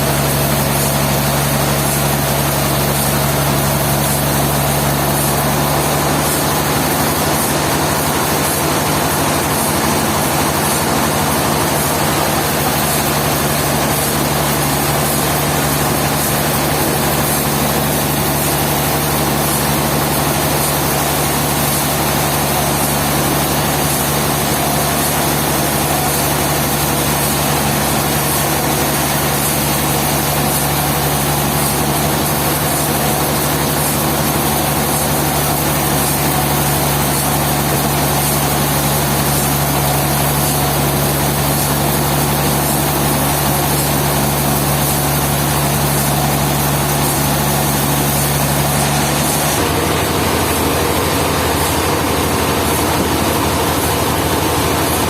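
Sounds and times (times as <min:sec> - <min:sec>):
machine engine humming: 0:00.0 - 0:55.0
noisy wash: 0:00.0 - 0:55.0.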